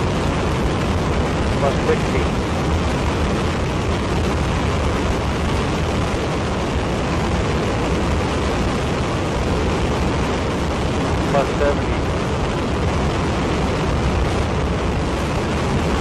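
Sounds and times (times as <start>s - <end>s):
rocket motor roaring: 0.0s - 16.0s.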